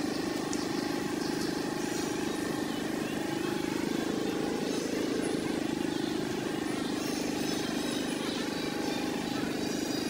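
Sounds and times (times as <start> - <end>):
engine running with pulsing drone: 0.0 - 10.0.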